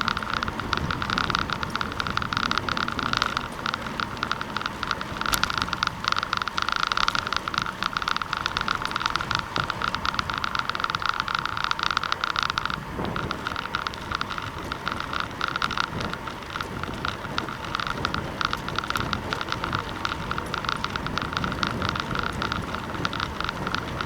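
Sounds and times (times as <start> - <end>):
bicycle rattle: 0.0 - 24.0
bicycle tyres on road: 0.0 - 24.0.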